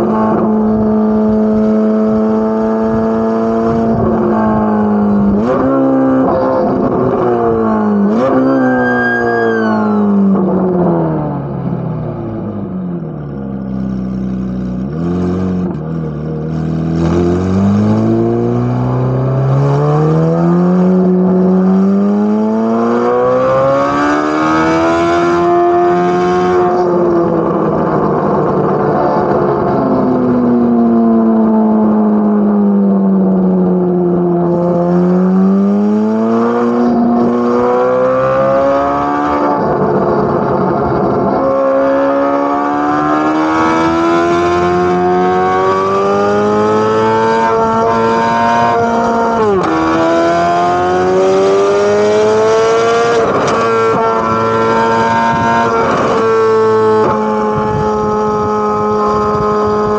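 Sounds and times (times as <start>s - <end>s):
sports car engine revving: 0.0s - 59.9s.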